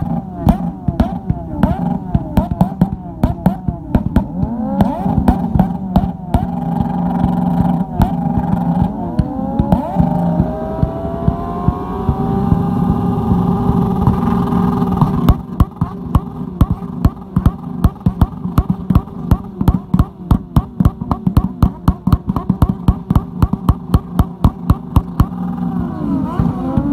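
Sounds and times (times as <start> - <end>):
exhaust backfire bangs: 0.0 - 26.9
motorcycle engines at high revs: 0.0 - 26.9.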